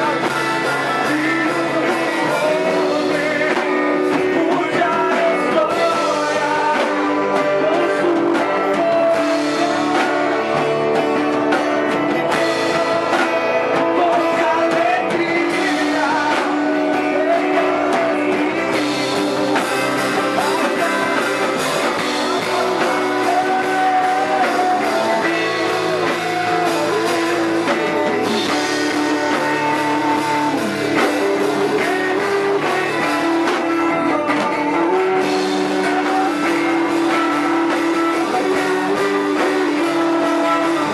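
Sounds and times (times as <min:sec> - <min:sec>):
electric guitar: 0:00.0 - 0:40.9
person singing: 0:00.0 - 0:40.9
rock band playing live: 0:00.0 - 0:40.9.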